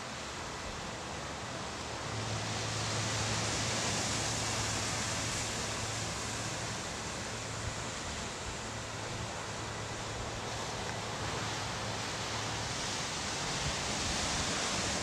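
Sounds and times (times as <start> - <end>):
ocean surf washing against rocks: 1.6 - 15.0.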